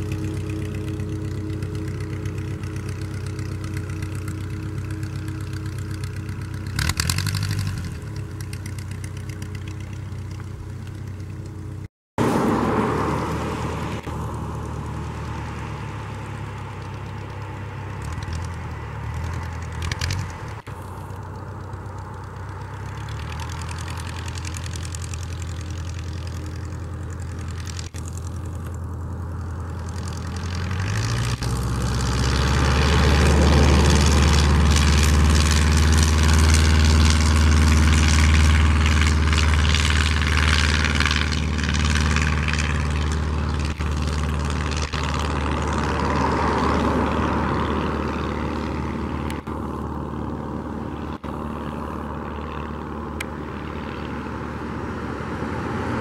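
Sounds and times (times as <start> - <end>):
light aircraft propeller engine: 0.0 - 56.0.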